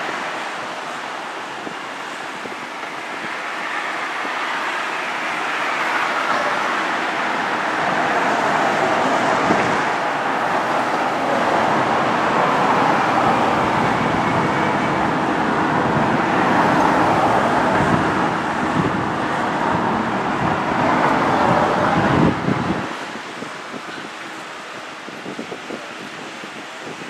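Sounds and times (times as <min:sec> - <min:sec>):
moving vehicle noise: 0:00.0 - 0:27.0.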